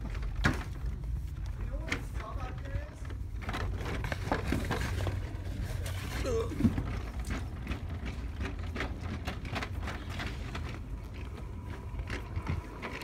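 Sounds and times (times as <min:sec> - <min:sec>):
handling clicks and knocks: 0:00.0 - 0:13.0
steady low rumble: 0:00.0 - 0:13.0.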